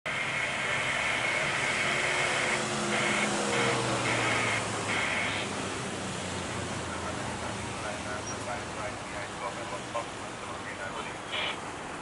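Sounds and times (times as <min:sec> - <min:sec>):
jet engines rushing with whine: 0:00.1 - 0:12.0.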